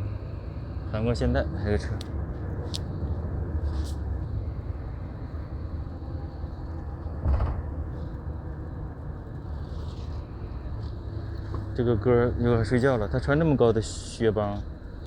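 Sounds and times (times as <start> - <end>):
coach engine rumble: 0.0 - 15.0
road noise: 0.0 - 15.0.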